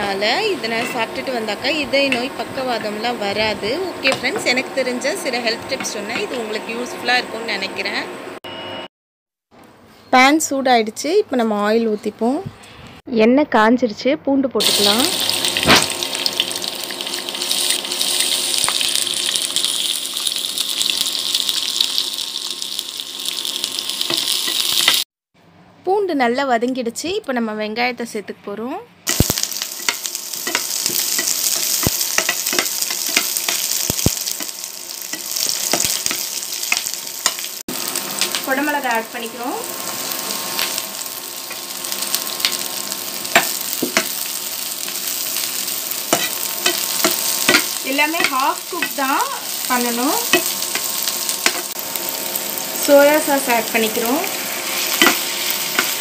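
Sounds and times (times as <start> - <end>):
garlic sizzling in hot oil: 0.0 - 8.0, 14.6 - 25.1, 29.1 - 56.0.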